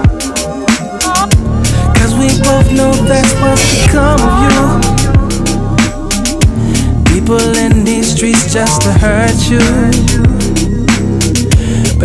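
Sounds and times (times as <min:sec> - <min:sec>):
hip-hop instrumental beat: 0:00.0 - 0:12.0
deep booming kick drum: 0:01.3 - 0:11.8.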